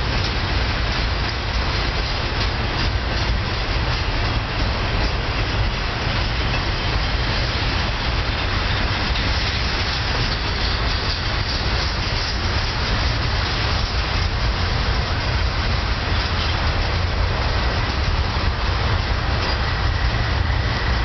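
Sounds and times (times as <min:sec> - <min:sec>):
freight train wheels rumbling and rattling: 0:00.0 - 0:21.0.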